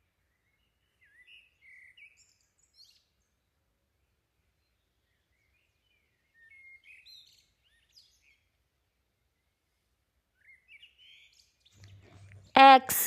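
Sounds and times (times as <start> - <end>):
faint bird chirps: 0.2 - 8.6, 9.2 - 12.6.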